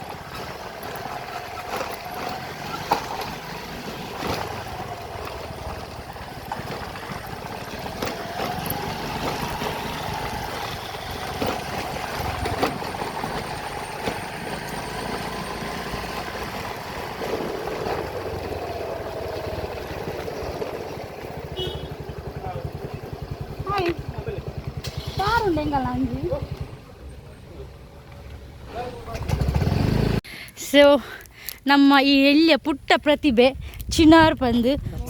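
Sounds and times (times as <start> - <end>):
vehicle engine whine: 0.0 - 30.2
wind and road noise: 0.0 - 35.0.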